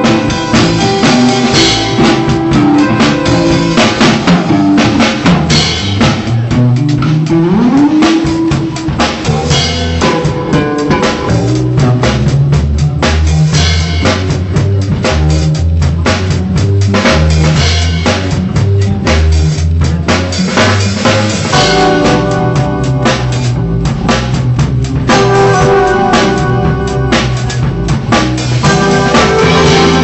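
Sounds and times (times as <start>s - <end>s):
loud music with drum kit: 0.0s - 30.0s.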